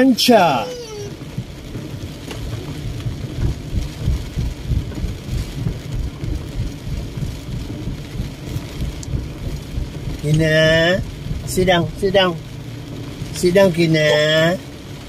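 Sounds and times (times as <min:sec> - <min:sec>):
heavy rain on car roof: 0:00.0 - 0:15.0
low uneven rumble: 0:00.0 - 0:15.0.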